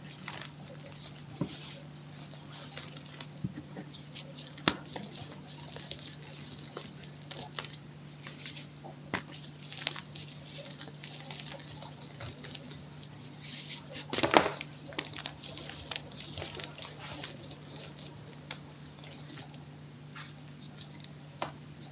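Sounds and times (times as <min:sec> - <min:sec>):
crunching and crackling: 0:00.0 - 0:21.9
steady low hum: 0:00.0 - 0:21.9.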